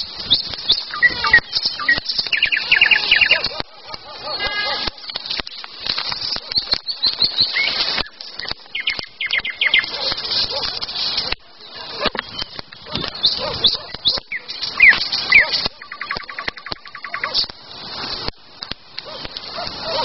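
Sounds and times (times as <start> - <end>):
songbirds chirping and trilling: 0.0 - 17.5
clicks and crackles: 0.0 - 20.0.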